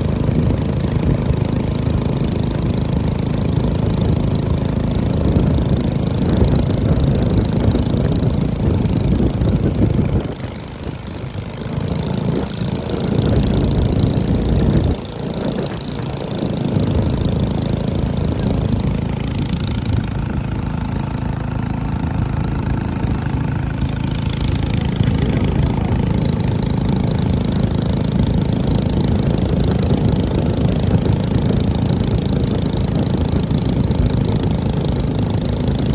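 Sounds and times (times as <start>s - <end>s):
boat engines buzzing: 0.0s - 35.9s.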